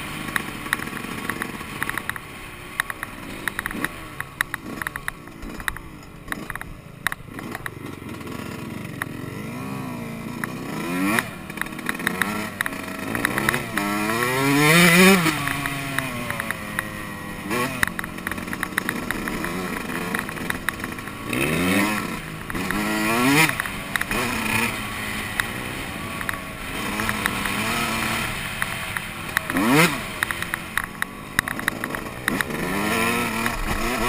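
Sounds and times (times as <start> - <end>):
motocross engine revving: 0.0 - 34.0.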